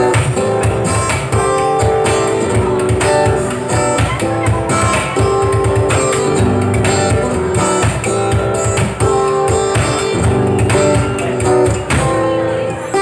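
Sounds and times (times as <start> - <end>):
percussion beat: 0.0 - 12.5
guitar strumming: 0.0 - 13.0.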